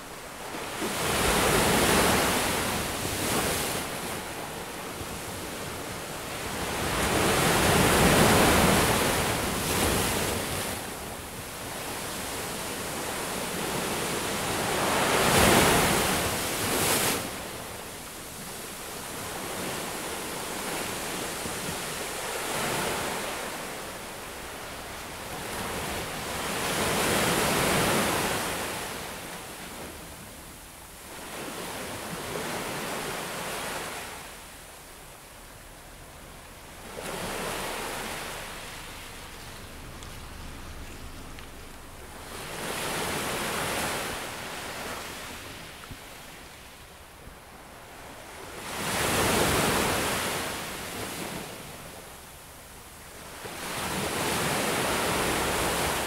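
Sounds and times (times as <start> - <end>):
ocean waves breaking: 0.0 - 52.3, 53.2 - 56.0.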